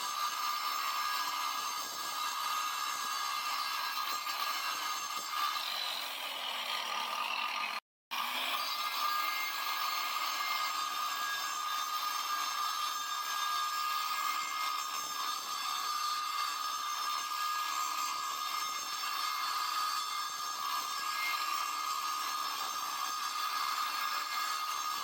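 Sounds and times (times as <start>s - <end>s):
angle grinder whining: 0.0s - 25.0s.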